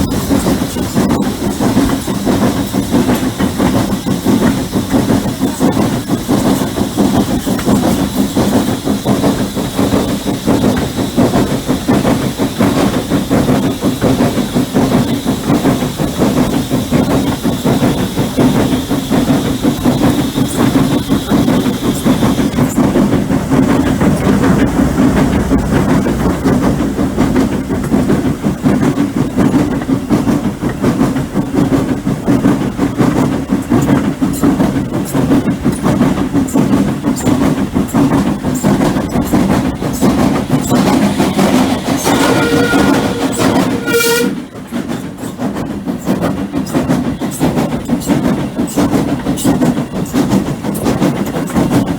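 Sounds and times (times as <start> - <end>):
high steady steam hiss: 0.0 - 51.9
steam train rumbling: 0.0 - 51.9
wheels clicking over rail joints: 0.0 - 51.9.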